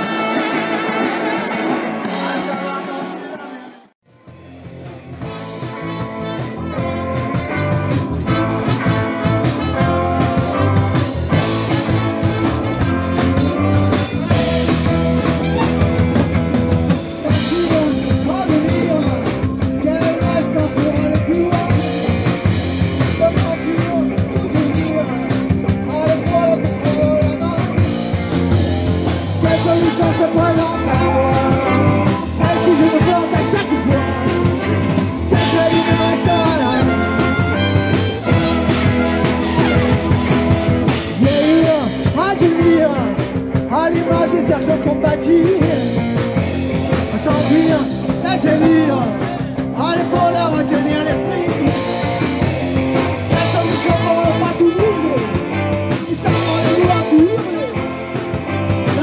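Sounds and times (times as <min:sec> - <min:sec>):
live band music: 0:00.0 - 0:59.0.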